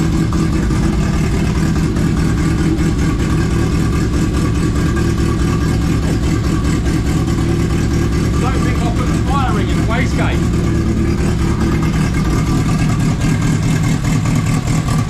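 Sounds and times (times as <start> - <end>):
loud car engine idling: 0.0 - 15.0.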